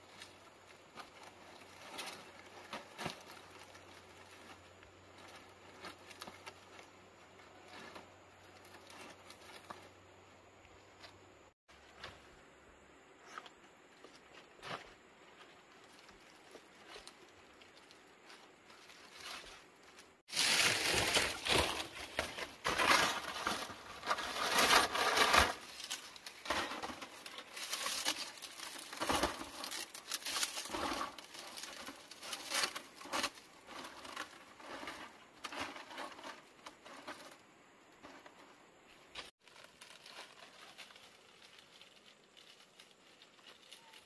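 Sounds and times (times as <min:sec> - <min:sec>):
dry leaves rustling and crackling: 0:00.0 - 0:09.8, 0:14.7 - 0:37.4, 0:39.1 - 0:44.0.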